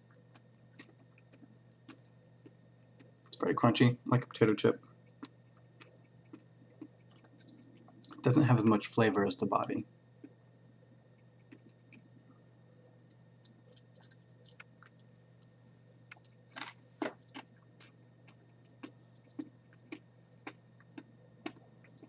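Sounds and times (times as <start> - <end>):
faint crunchy chewing: 0.0 - 8.3, 10.2 - 22.0.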